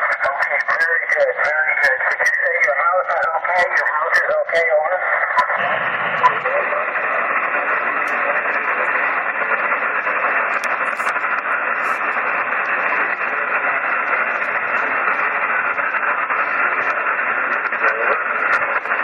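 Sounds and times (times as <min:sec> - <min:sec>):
radio receiver static hiss: 0:00.0 - 0:19.0.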